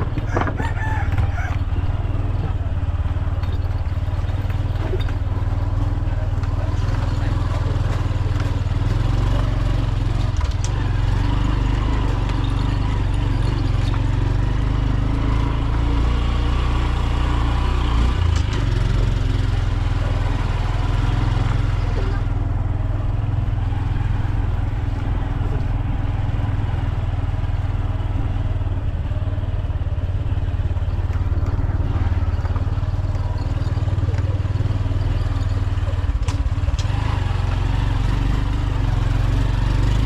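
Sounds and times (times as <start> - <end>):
small motorcycle engine running: 0.0 - 40.0.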